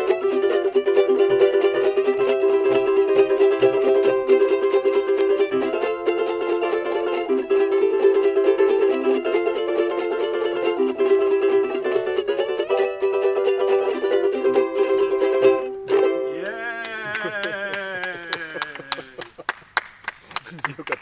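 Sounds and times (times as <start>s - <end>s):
ukuleles playing a plucked tune: 0.0s - 19.4s.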